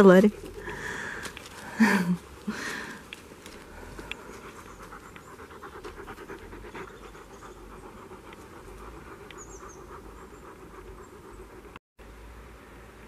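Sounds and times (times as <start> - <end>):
dog panting: 0.1 - 11.8.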